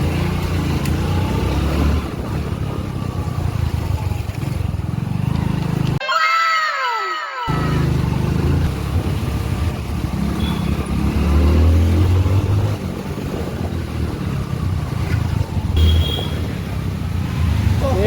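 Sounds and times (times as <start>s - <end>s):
motorcycle engine running: 0.0s - 6.0s, 7.6s - 18.0s.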